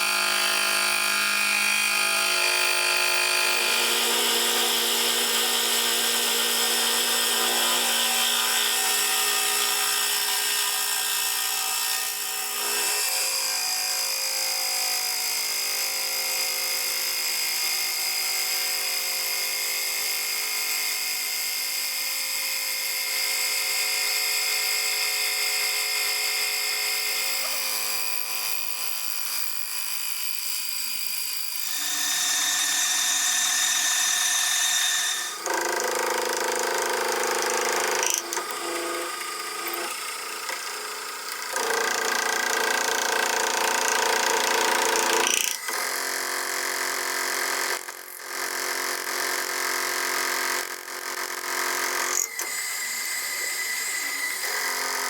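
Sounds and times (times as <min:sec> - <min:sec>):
electric power tools whining: 0:00.0 - 0:22.0, 0:22.6 - 0:55.0.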